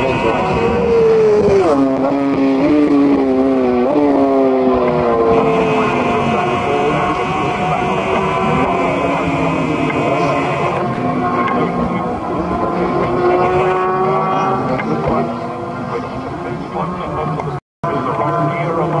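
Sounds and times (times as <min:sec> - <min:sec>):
racing motorcycle engine high revs: 0:00.0 - 0:19.0.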